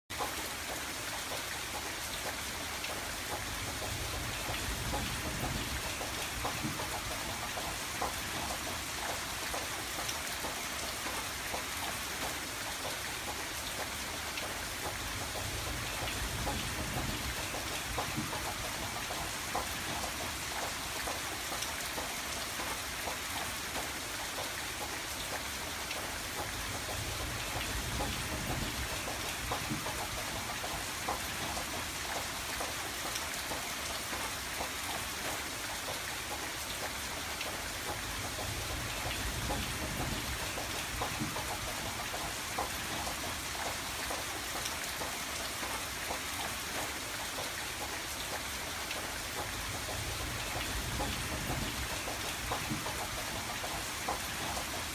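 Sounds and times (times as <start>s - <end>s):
rain on a window: 0.1s - 54.9s.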